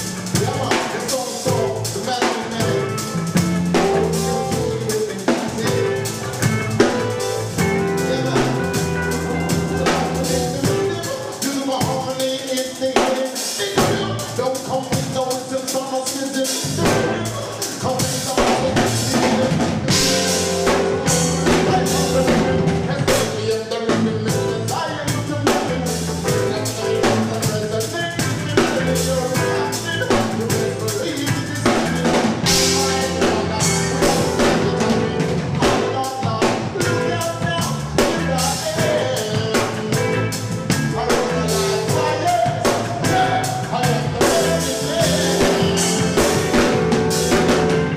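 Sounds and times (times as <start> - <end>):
bass line: 0.0 - 47.9
drum kit: 0.0 - 47.9
live rock band playing: 0.0 - 47.9.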